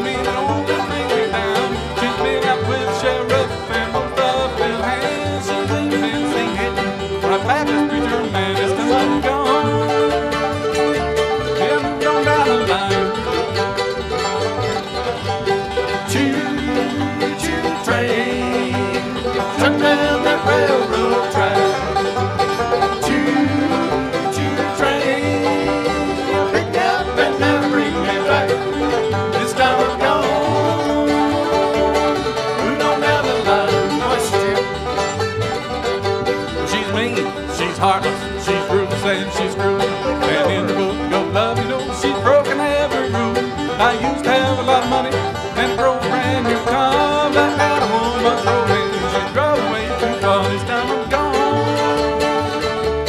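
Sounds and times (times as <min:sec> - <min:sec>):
acoustic guitar: 0:00.0 - 0:53.0
banjo: 0:00.0 - 0:53.0
fiddle: 0:00.0 - 0:53.0
mandolin: 0:00.0 - 0:53.0
upright bass: 0:00.0 - 0:53.0.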